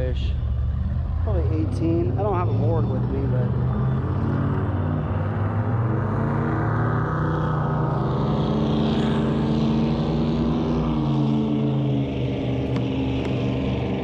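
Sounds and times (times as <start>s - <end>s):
motorboat engine droning: 0.0s - 14.0s.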